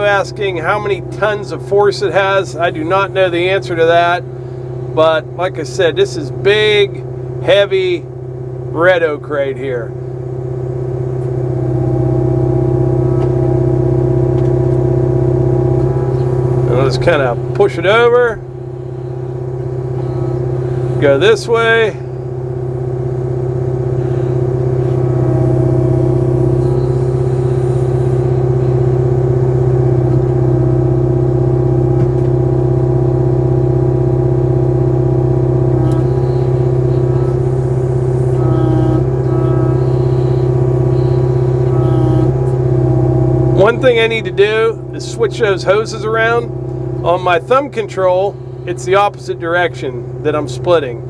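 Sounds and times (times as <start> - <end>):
excavator diesel engine running: 0.0 - 51.0
hydraulic log splitter: 0.0 - 51.0.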